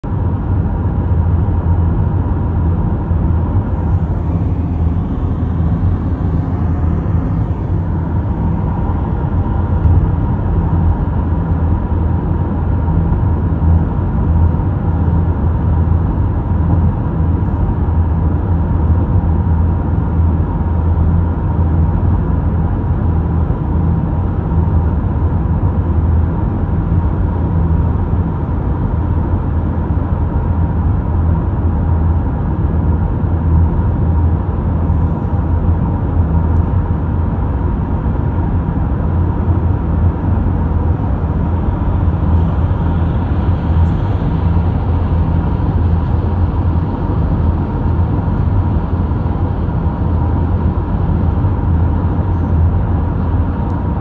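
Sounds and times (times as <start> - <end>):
car road and engine rumble: 0.0 - 54.0
faint steady hum: 0.0 - 54.0.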